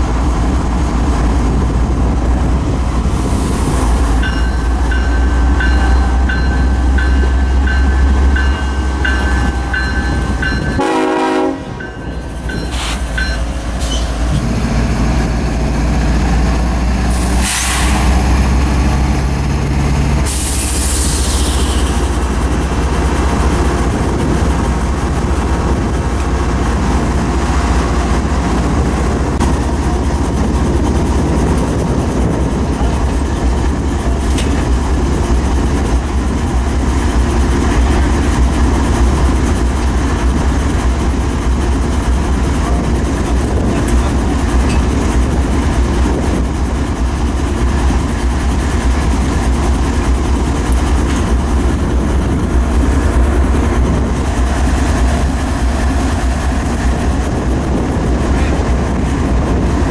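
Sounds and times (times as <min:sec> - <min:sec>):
locomotive engines idling: 0:00.0 - 0:59.9.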